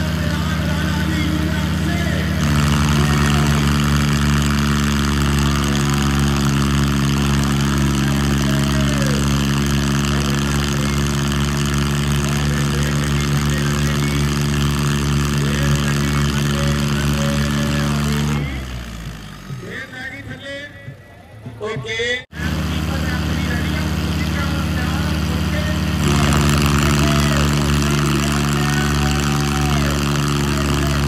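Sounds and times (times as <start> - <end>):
tractor diesel engines under load: 0.0 - 31.0.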